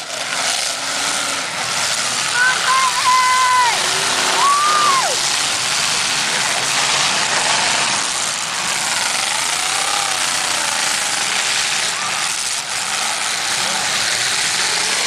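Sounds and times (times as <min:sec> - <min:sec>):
car engines revving: 0:00.0 - 0:15.0
sliding pitched tone: 0:00.0 - 0:15.0.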